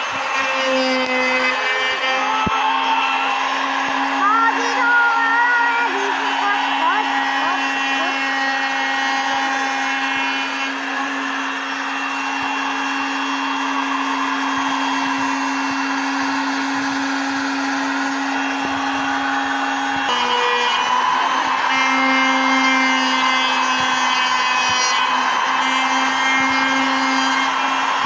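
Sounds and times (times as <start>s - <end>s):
electric router motor hum: 0.0s - 28.0s
router bit cutting wood: 0.0s - 28.0s.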